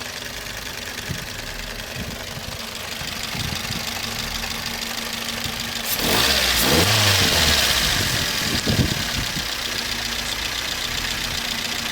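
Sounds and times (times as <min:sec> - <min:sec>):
car engine idling and revving: 0:00.0 - 0:11.9.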